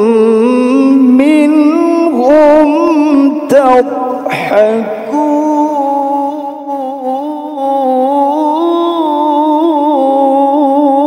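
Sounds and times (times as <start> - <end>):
man reciting in melodic chant: 0.0 - 11.0.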